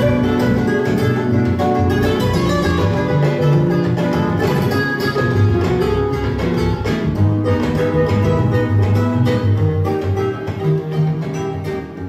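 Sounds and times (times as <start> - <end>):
music from vinyl record: 0.0 - 12.0.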